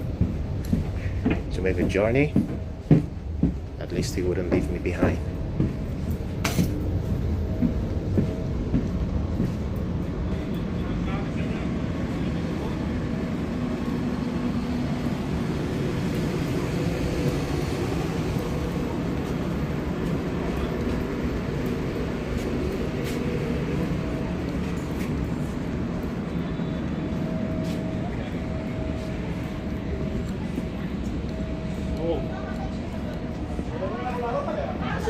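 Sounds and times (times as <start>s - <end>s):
train machinery humming: 0.0s - 35.0s.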